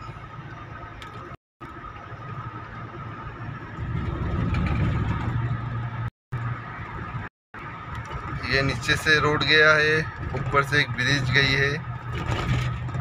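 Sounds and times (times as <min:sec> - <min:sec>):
car cabin road and engine drone: 0:00.0 - 0:13.0.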